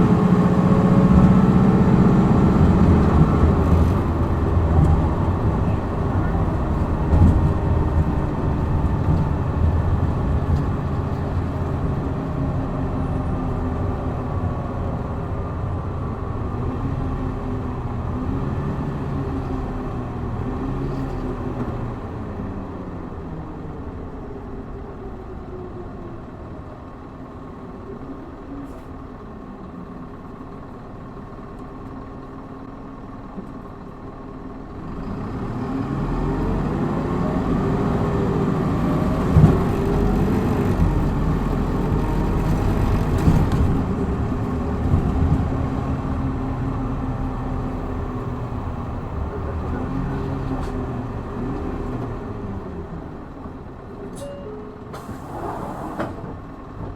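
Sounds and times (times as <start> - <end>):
bus diesel engine: 0.0 - 56.9.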